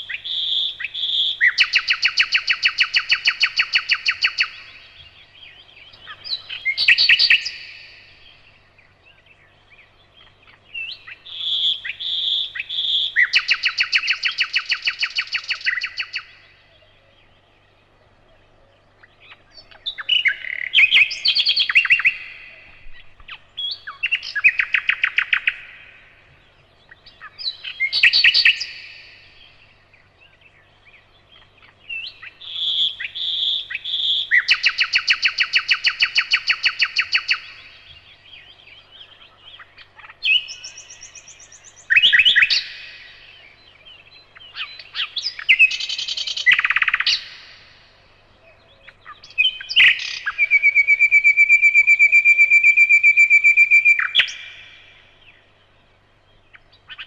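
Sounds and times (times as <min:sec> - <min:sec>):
nightingale singing: 0:00.0 - 0:57.0.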